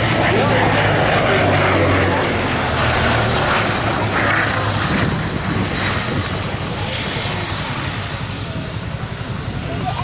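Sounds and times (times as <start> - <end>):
propeller plane engine: 0.0 - 10.0.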